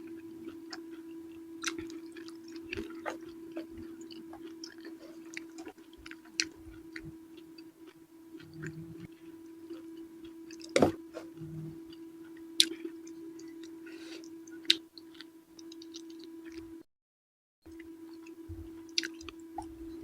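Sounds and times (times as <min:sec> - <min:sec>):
steady low hum: 0:00.0 - 0:16.9, 0:17.7 - 0:20.0
chewing with wet mouth clicks: 0:00.1 - 0:10.8, 0:11.4 - 0:16.6, 0:17.7 - 0:19.7.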